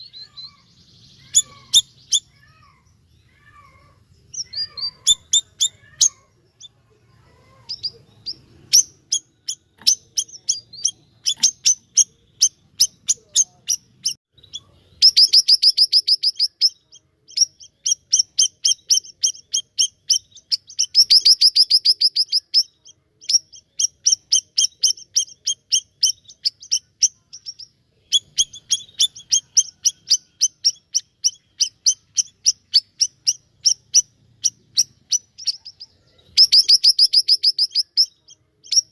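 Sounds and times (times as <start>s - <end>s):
bird trills: 0.0s - 38.9s
songbird chirping: 0.0s - 38.9s.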